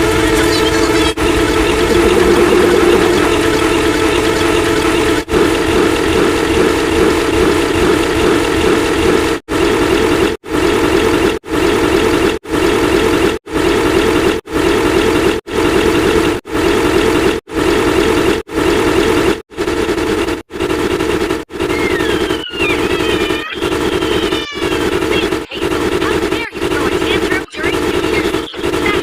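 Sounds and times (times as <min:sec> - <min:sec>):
harsh mechanical drone: 0:00.0 - 0:29.0.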